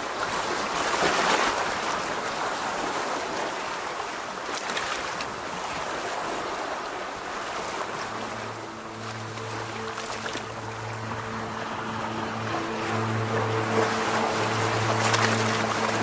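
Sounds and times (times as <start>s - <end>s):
sea waves washing in: 0.0s - 16.0s.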